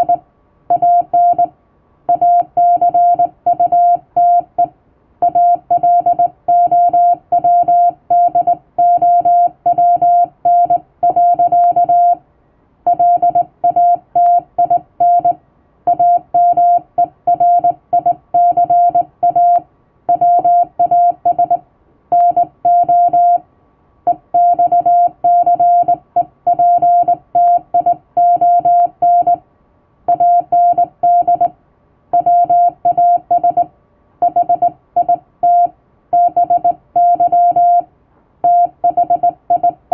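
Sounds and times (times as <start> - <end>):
morse code tone: 0.0 - 1.5, 2.1 - 12.2, 12.9 - 23.4, 24.1 - 29.4, 30.1 - 31.5, 32.2 - 39.9.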